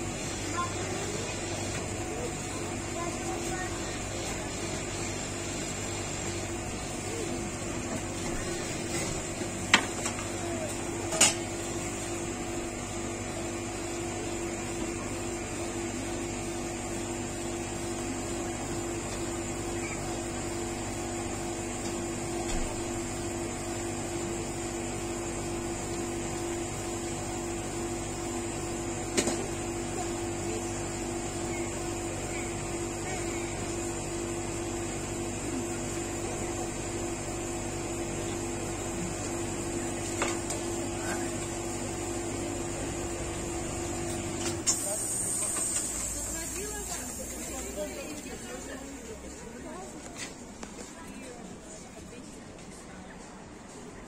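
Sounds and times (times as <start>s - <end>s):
refrigeration unit humming: 0.0s - 54.0s.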